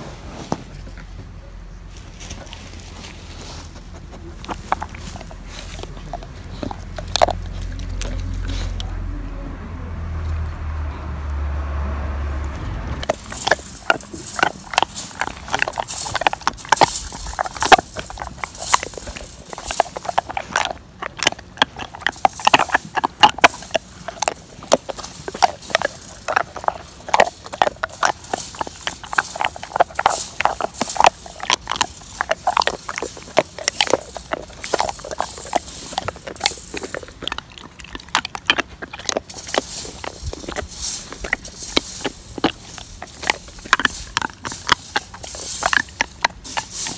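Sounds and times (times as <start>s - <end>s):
dog chewing and gnawing: 1.9s - 9.2s, 12.6s - 46.9s.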